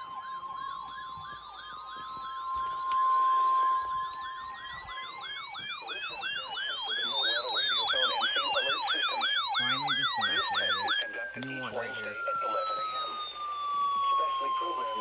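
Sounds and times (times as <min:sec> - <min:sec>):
electronic siren yelping and wailing: 0:00.0 - 0:15.0
high alert tone: 0:00.0 - 0:15.0.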